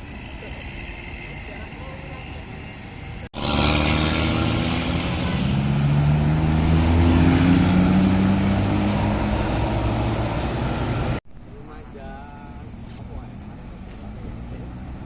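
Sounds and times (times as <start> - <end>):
bus diesel engine passing: 0.0 - 11.2, 12.4 - 15.0.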